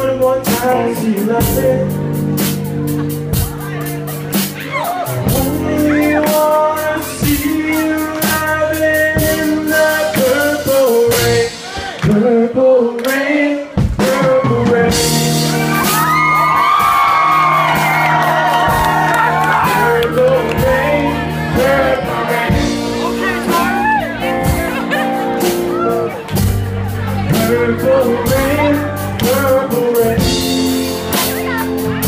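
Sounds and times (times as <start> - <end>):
man singing: 0.0 - 2.5, 5.0 - 32.0
live rock band playing: 0.0 - 12.1, 13.1 - 32.0.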